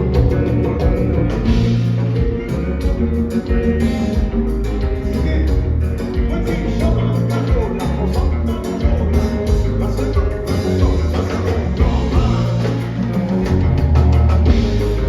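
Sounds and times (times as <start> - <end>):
band playing: 0.0 - 15.0
bass line: 0.0 - 15.0
drum beat: 0.0 - 15.0
guitar: 0.0 - 15.0.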